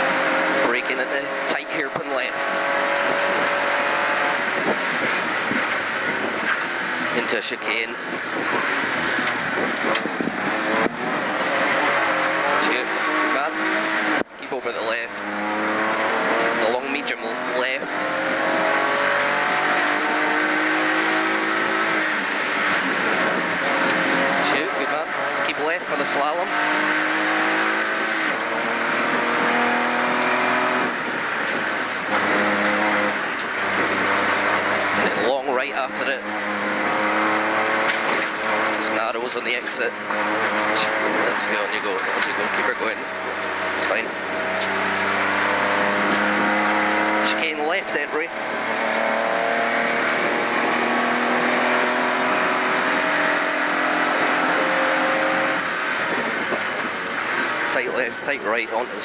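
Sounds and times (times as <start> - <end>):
rally car engine at high revs: 0.0 - 59.0
tyre and road noise: 0.0 - 59.0.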